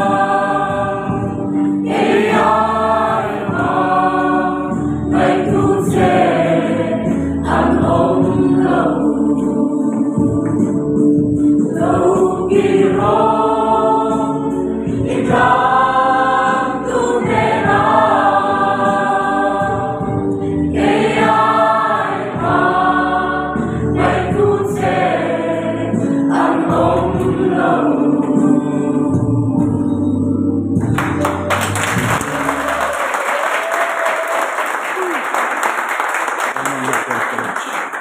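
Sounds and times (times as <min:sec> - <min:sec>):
crowd singing worship song: 0:00.0 - 0:35.1.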